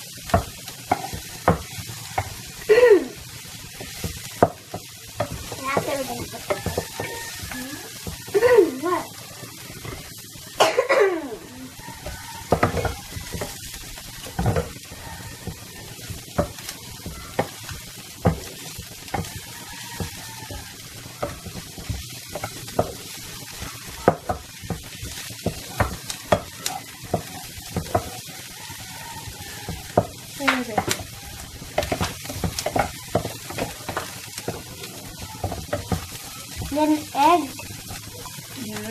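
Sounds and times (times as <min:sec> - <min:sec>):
spatula scraping and tapping pan: 0:00.0 - 0:02.6, 0:03.4 - 0:08.4, 0:09.2 - 0:10.2, 0:11.8 - 0:38.9
vegetables sizzling in a frying pan: 0:00.0 - 0:38.9.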